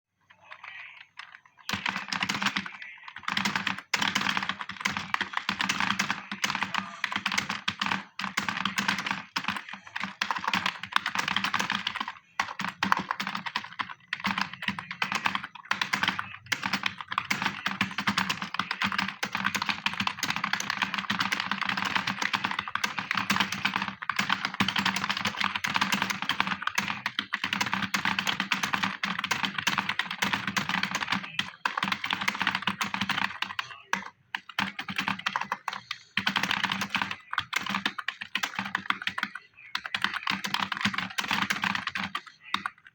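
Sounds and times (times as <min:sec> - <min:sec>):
fast typing on keyboard: 0:00.4 - 0:42.9.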